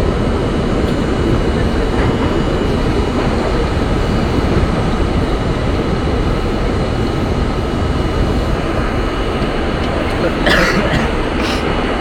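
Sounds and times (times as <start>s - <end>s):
faint whine tones: 0.0s - 12.0s
subway car wheels rumbling: 0.0s - 12.0s.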